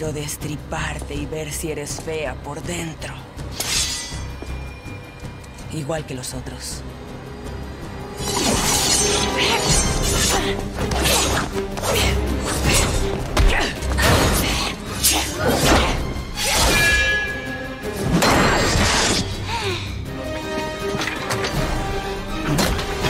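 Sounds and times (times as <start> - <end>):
background score music: 0.0 - 23.0.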